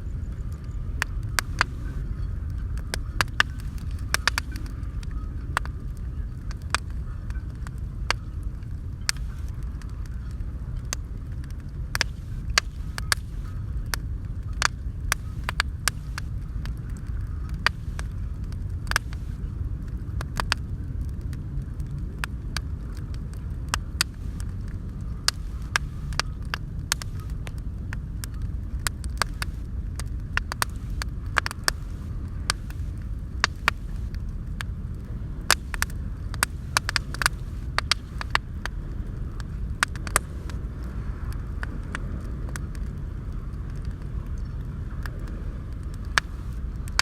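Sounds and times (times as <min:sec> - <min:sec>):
bonfire crackling and popping: 0:00.0 - 0:47.0
low rumble: 0:00.0 - 0:47.0.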